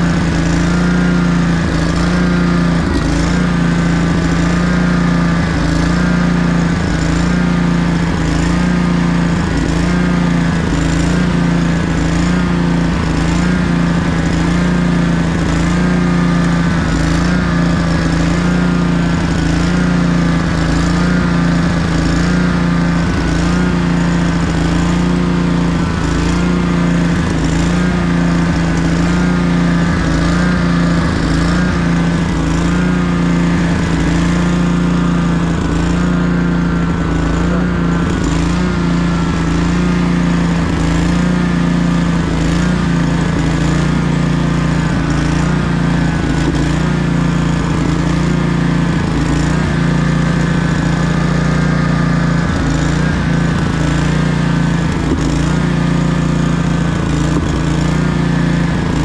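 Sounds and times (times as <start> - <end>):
lawn mower engine droning: 0.0 - 59.0.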